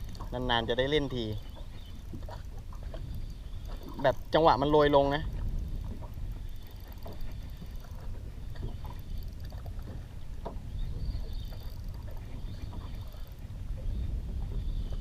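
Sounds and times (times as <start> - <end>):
boat engine low rumble: 0.0 - 15.0
water noise: 0.0 - 15.0.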